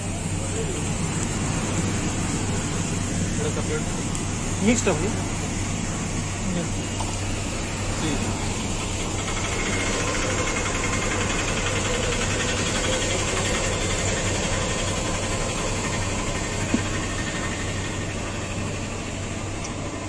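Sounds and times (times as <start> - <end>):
ice cream machine humming: 0.0 - 20.0.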